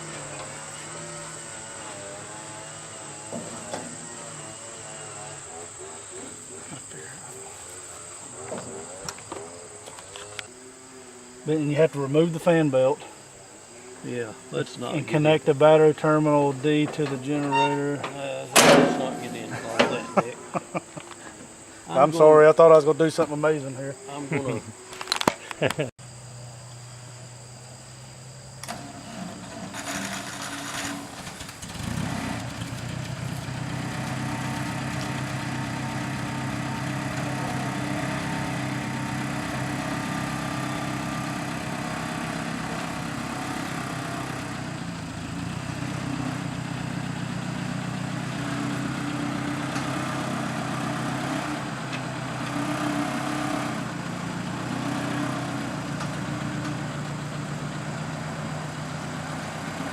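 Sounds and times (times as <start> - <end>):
tractor engine cranking and idling: 0.0 - 10.5, 14.6 - 23.7, 28.5 - 59.9.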